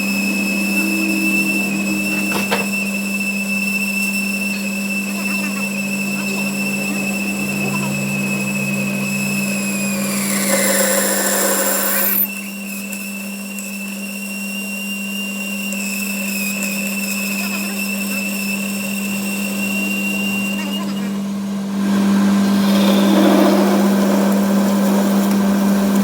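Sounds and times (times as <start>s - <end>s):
harsh machine noise: 0.0s - 12.7s, 17.2s - 26.0s
workshop machine humming and whining: 0.0s - 26.0s.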